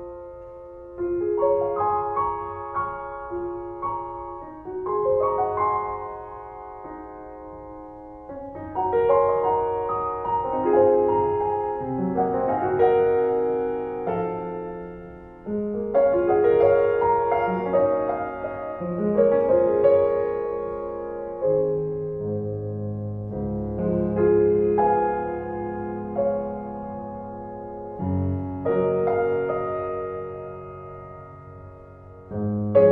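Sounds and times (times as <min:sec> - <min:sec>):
gentle piano music: 0:00.0 - 0:32.9.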